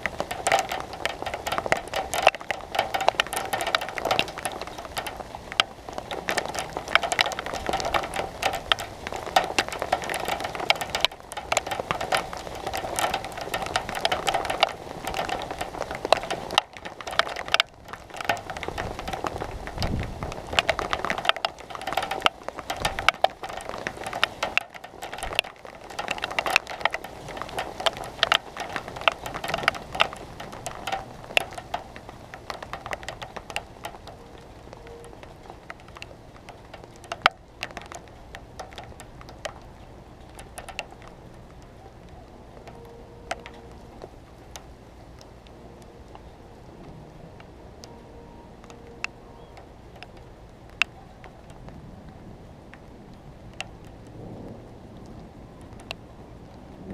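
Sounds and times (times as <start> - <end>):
rain on metal: 0.0 - 56.9.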